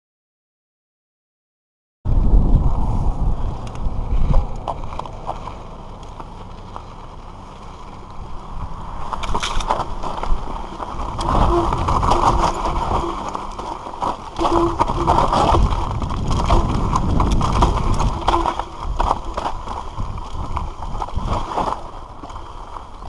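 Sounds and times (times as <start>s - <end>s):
bike tyres grinding over dirt: 2.1s - 23.0s
wind rumble on microphone: 2.1s - 23.0s
bike rattling and knocking: 3.6s - 23.0s.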